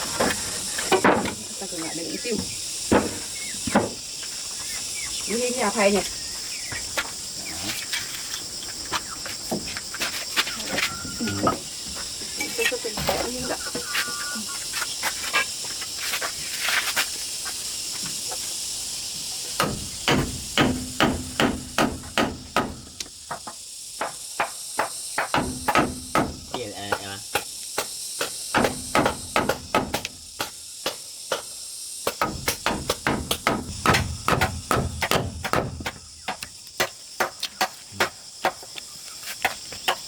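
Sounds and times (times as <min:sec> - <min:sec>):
high buzz of insects: 0:00.0 - 0:40.0.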